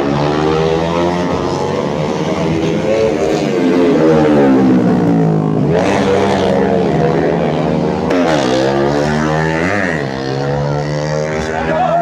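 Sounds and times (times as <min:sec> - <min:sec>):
racing motorcycles revving: 0:00.0 - 0:12.0.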